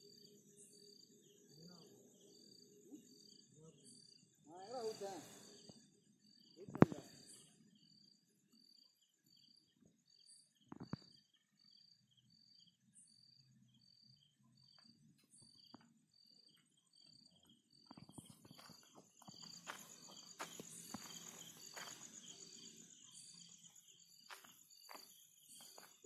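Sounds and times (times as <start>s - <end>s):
cricket chirping: 0.0s - 26.0s
high-pitched insect trill: 0.0s - 26.0s.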